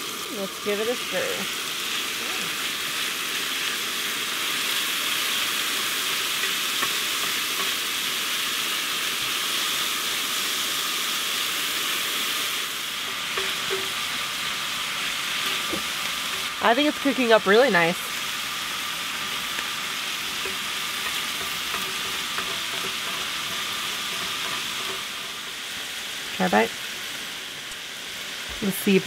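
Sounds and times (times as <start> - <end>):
meat sizzling on a griddle: 0.0 - 29.0.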